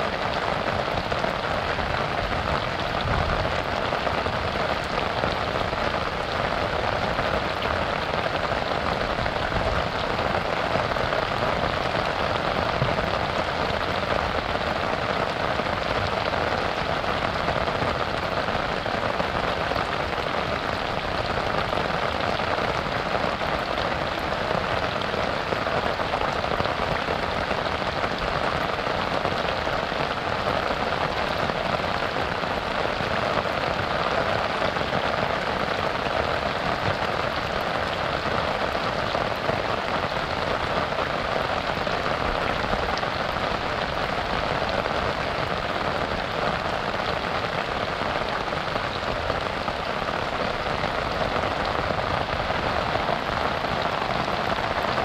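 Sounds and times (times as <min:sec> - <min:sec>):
rain falling on a river: 0:00.0 - 0:55.0.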